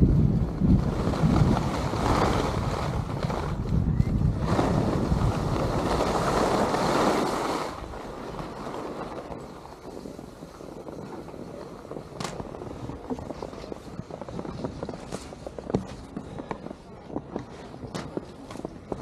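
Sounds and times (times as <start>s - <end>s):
skis scraping over snow: 0.0s - 19.0s
wind buffeting microphone: 0.0s - 19.0s.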